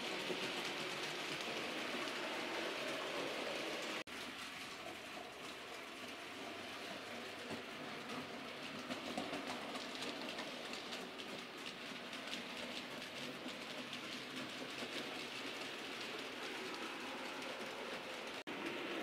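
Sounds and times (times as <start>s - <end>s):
model train wheels clicking: 0.0s - 19.0s.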